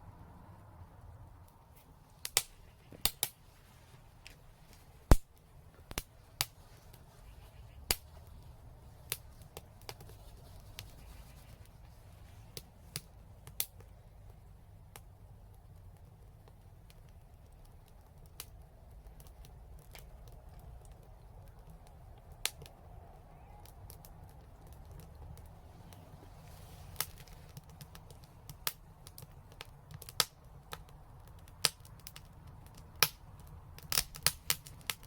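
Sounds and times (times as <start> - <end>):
low rumble of burning: 0.0 - 35.0
wood fire crackling: 0.0 - 35.0.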